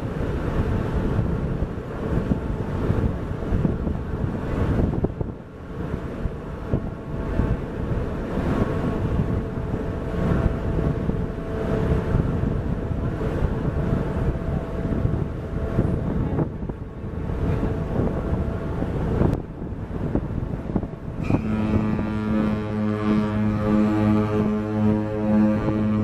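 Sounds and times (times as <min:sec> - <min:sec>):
deep ship horn: 0:00.0 - 0:26.0
ship machinery rumble: 0:00.0 - 0:26.0
water churning: 0:00.0 - 0:26.0
wind buffeting microphone: 0:00.0 - 0:26.0.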